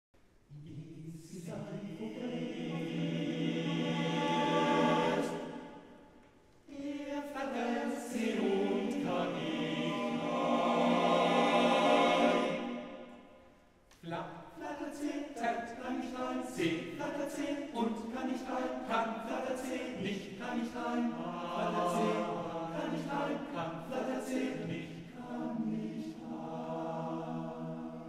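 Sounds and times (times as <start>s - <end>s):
male choir singing a cappella: 0.5s - 6.0s, 6.7s - 13.3s, 14.6s - 28.0s.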